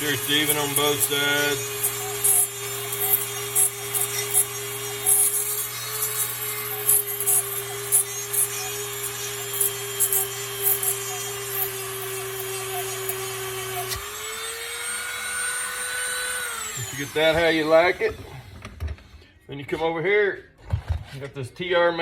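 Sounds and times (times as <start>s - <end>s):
scratchy grinding bursts: 0.0s - 18.7s
rotary tool grinding metal: 0.0s - 19.1s.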